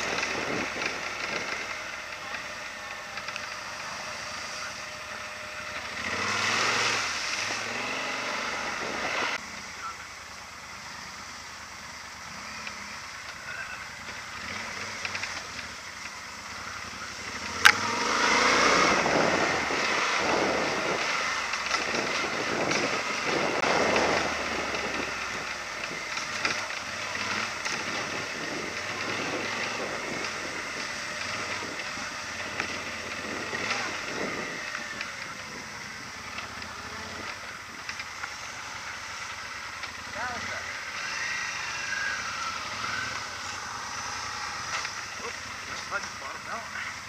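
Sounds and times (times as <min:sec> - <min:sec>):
motorcycle rattling over rough ground: 0:00.0 - 0:47.0
wind and travel noise: 0:00.0 - 0:47.0.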